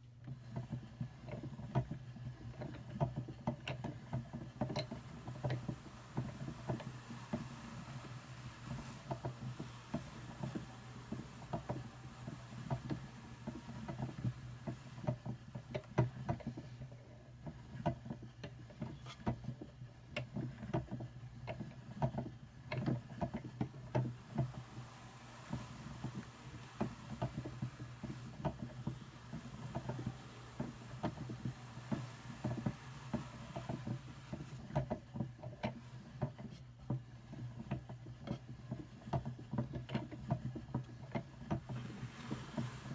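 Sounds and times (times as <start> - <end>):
drum carder clicking and rustling: 0.0 - 42.9
steady low hum: 3.4 - 20.6, 21.5 - 38.7, 41.4 - 42.9.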